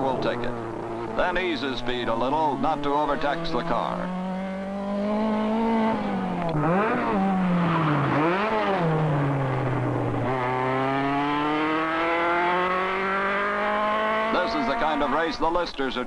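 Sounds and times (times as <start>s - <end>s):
racing car engine at speed: 0.0s - 16.0s.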